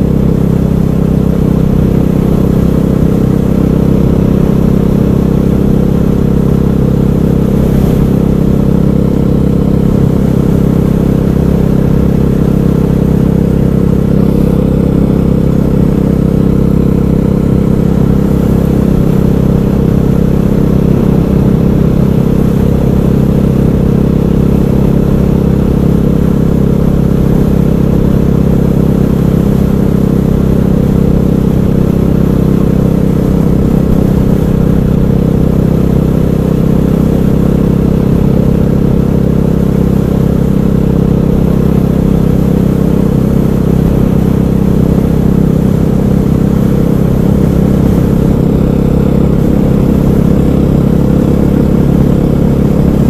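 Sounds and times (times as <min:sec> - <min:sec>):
motorcycle engine running steadily: 0:00.0 - 0:53.0.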